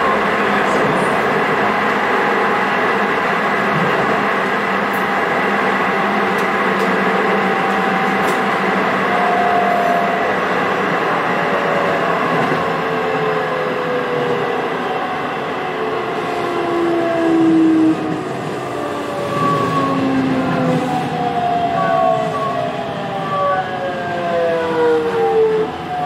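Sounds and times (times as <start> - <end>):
train running in tunnel: 0.0 - 26.0.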